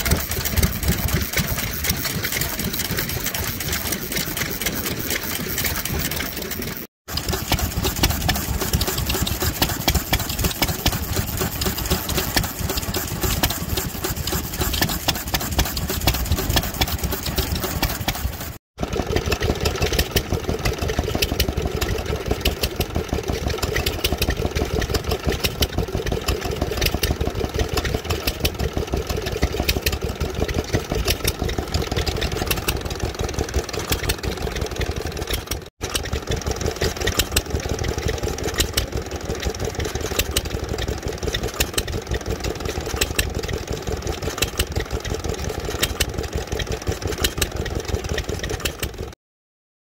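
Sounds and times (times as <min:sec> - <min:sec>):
small stationary engine running: 0:00.0 - 0:49.2.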